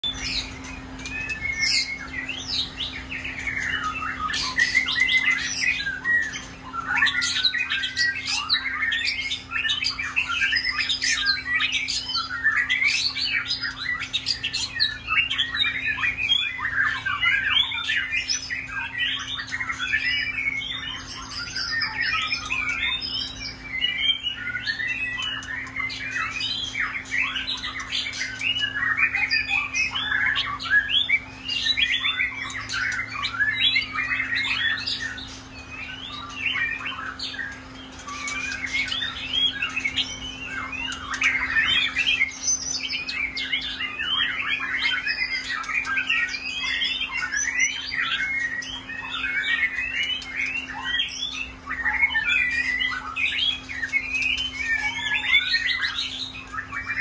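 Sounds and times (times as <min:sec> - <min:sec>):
birds singing whistled phrases: 0:00.0 - 0:57.0.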